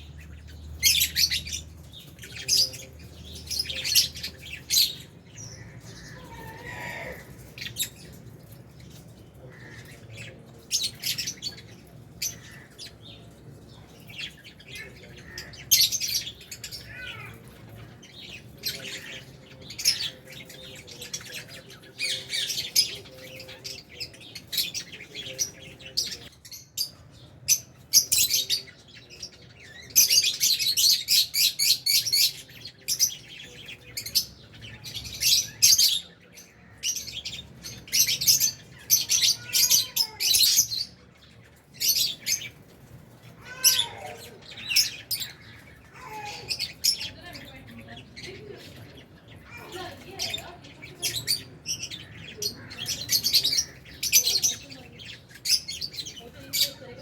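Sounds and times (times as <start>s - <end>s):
birds chirping and squawking: 0.0s - 57.0s.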